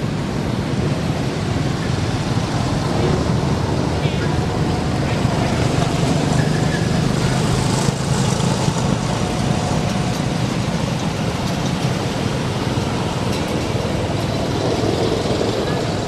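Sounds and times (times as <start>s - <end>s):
motorbike engines: 0.0s - 16.0s
road traffic rumble: 0.0s - 16.0s.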